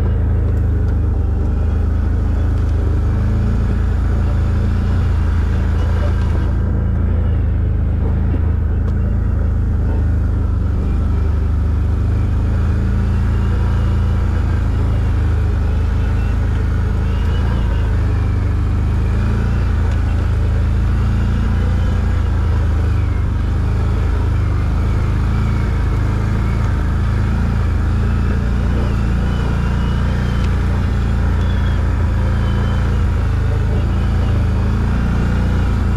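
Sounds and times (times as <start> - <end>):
atv engine rumbling: 0.0 - 35.9.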